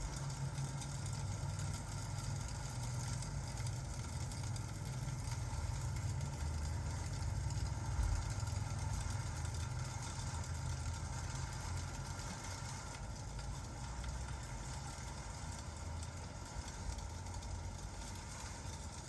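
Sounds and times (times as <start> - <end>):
fireplace crackles: 0.0 - 19.0
rain hiss: 0.0 - 19.0.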